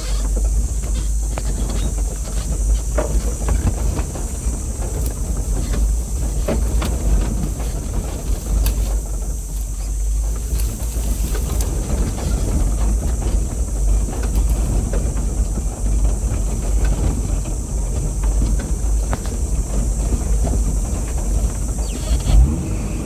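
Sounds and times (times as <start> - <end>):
knocks and rattles: 0.0 - 22.6
vehicle engine and tyre rumble: 0.0 - 23.0
vehicle jolt: 0.0 - 23.0.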